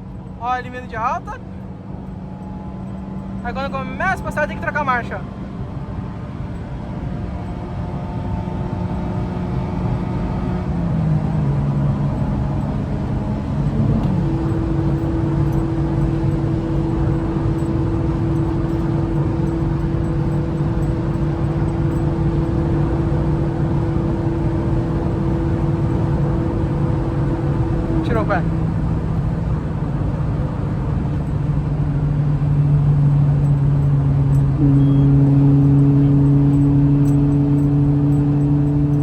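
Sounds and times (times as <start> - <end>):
car engine pulling hard: 0.0 - 39.0.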